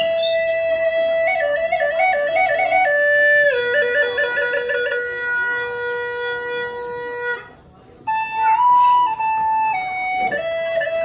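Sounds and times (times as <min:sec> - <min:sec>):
bamboo flute melody with trills: 0:00.0 - 0:11.0.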